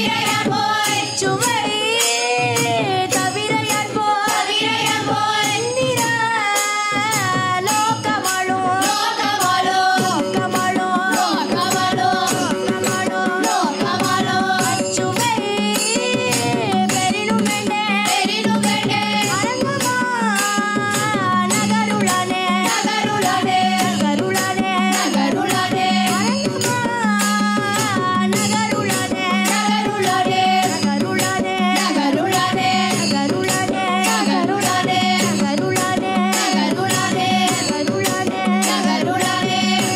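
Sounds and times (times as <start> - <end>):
girls singing devotional song: 0.0 - 39.9
mridangam drumming: 0.0 - 39.9.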